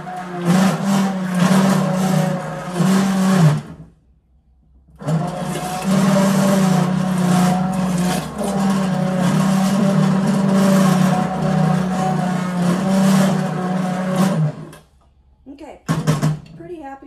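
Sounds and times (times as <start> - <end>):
stick blender motor hum: 0.0 - 3.8, 5.0 - 14.8.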